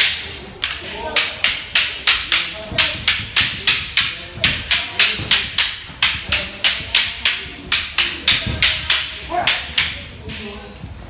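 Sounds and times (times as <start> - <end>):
wooden staffs clacking: 0.0 - 11.0.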